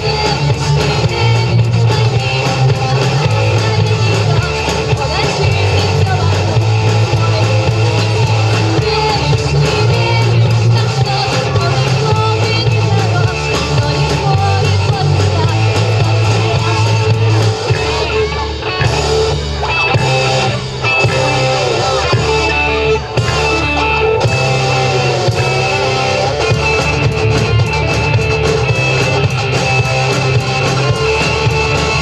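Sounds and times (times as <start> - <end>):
bass line: 0.0 - 32.0
rock band playing: 0.0 - 32.0.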